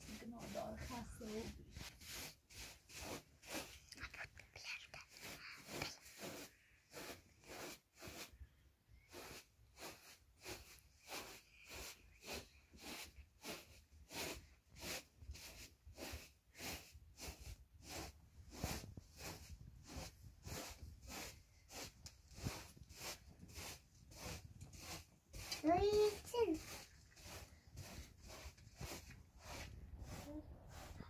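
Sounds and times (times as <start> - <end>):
soft rhythmic swishing of cradle: 0.0 - 8.4, 9.0 - 31.0.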